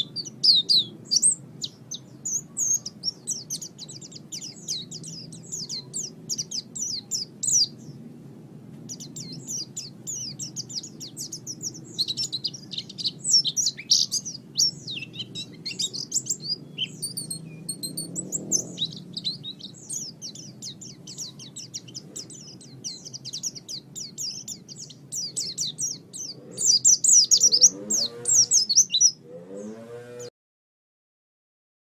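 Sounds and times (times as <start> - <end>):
bird singing high chirps: 0.0 - 8.1, 8.8 - 30.3.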